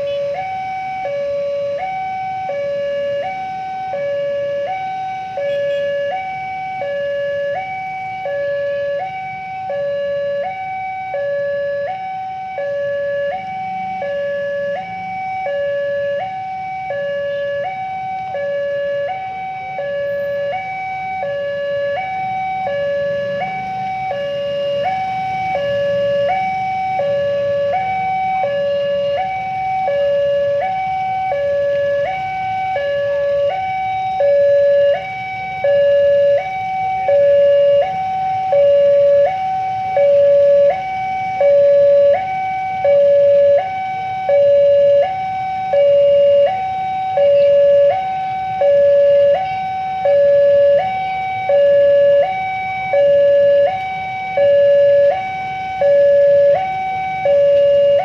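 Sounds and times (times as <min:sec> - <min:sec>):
level crossing alarm two-tone signal: 0:00.0 - 0:58.0.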